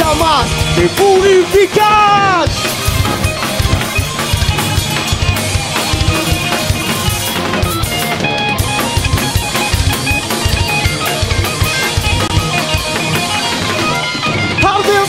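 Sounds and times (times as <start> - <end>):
distorted electric guitar: 0.0 - 15.0
fast drum kit beat: 0.0 - 15.0.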